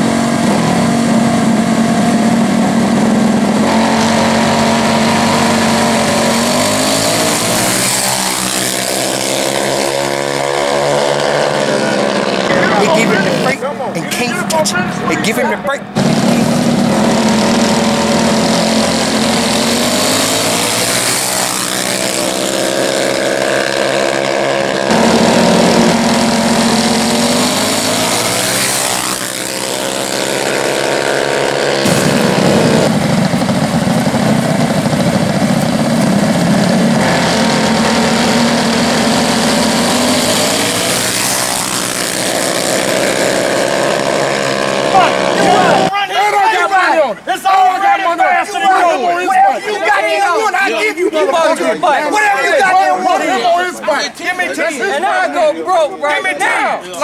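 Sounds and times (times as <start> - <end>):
minibike engines revving: 0.0 - 55.3.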